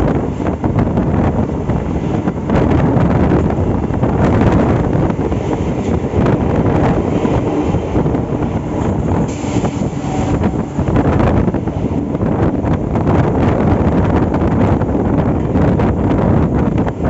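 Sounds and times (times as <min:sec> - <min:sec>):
train rumbling on rails: 0:00.0 - 0:17.0
wind buffeting microphone: 0:00.0 - 0:17.0.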